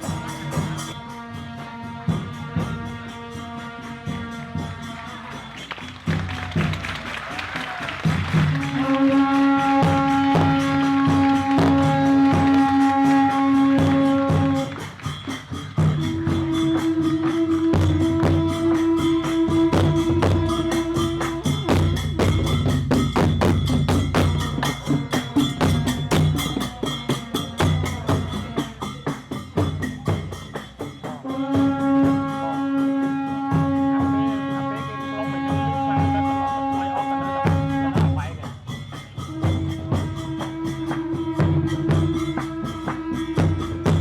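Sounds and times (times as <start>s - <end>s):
drums and clappers beat: 0.0s - 44.0s.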